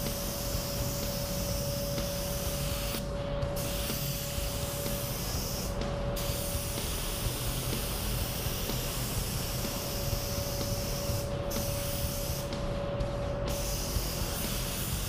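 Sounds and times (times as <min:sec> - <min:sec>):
spray gun hissing: 0:00.0 - 0:03.0, 0:03.6 - 0:12.7, 0:13.5 - 0:15.0
air system rumble: 0:00.0 - 0:15.0
faint air system whine: 0:00.0 - 0:15.0.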